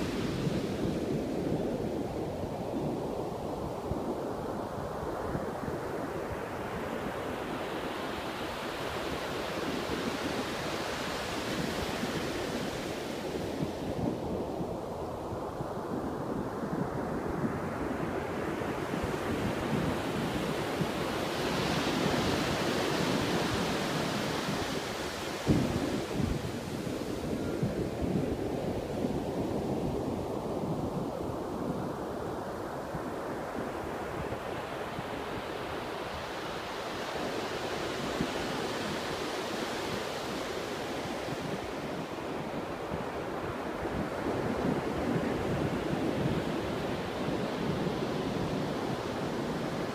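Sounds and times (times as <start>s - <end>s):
ocean surf breaking on sand: 0.0s - 49.9s.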